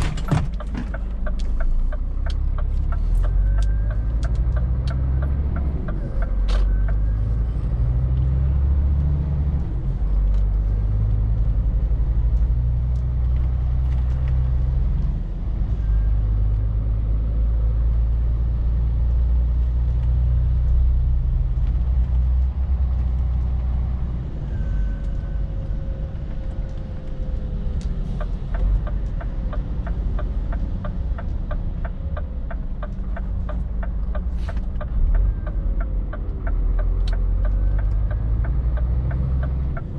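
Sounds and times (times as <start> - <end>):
lorry diesel engine drone: 0.0 - 39.9.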